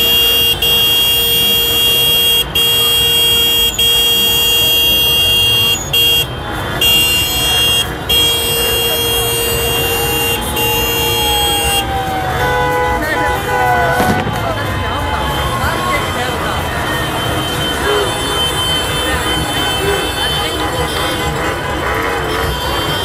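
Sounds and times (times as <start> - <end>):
car horns blasting: 0.0 - 23.0
crowd noise: 0.0 - 23.0.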